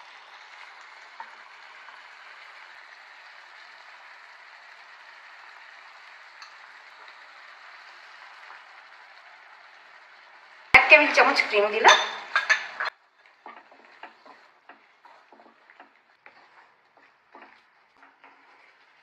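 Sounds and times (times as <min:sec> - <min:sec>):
curry simmering in a pan: 0:00.0 - 0:11.2, 0:12.3 - 0:19.0.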